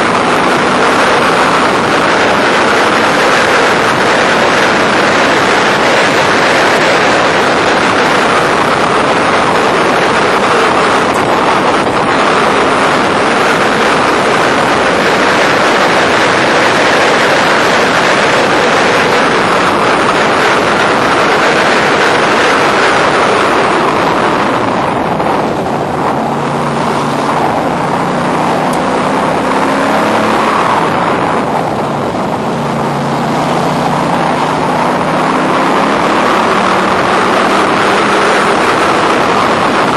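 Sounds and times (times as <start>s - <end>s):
race car engine under load: 0.0s - 39.9s
wind rushing: 0.0s - 39.9s.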